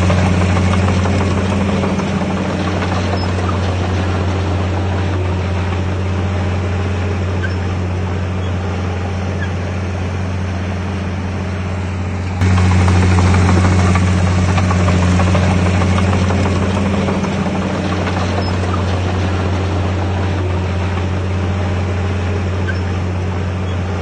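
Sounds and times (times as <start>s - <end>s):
heavy diesel machinery engine: 0.0s - 24.0s.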